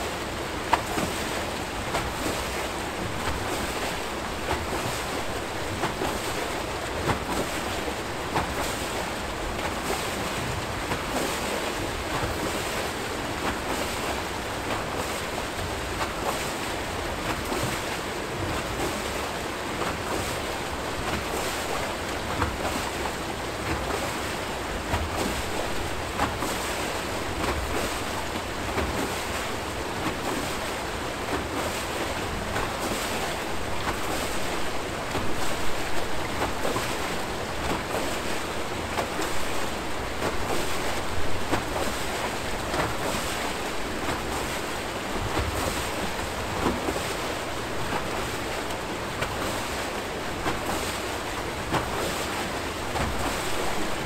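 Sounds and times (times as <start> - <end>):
water rushing from turbine: 0.0 - 54.0
water splashes: 0.0 - 54.0.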